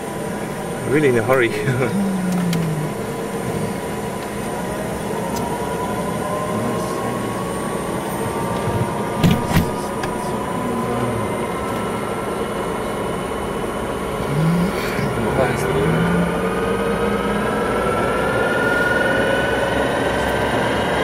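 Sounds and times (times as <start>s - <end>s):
faint rising whine: 0.0s - 21.0s
turboprop engine running: 0.0s - 21.0s.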